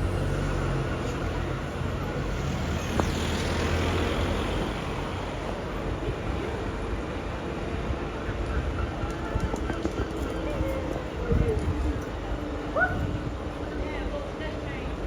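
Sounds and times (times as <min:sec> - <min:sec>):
bus engine running: 0:00.0 - 0:15.0
road traffic noise: 0:00.0 - 0:15.0.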